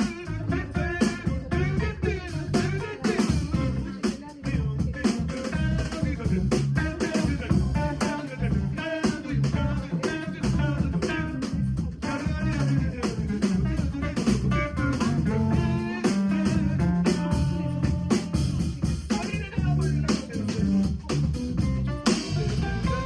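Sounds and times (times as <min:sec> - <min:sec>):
bass guitar: 0:00.0 - 0:23.0
drum kit playing: 0:00.0 - 0:23.0.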